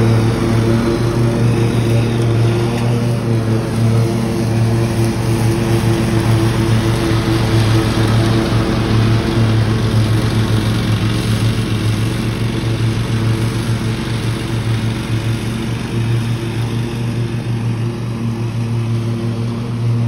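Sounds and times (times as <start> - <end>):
riding mower engine running: 0.0 - 20.0.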